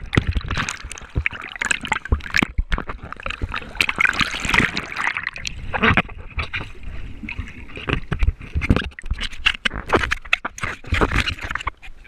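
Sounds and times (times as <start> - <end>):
water sloshing against camera housing: 0.0 - 12.0.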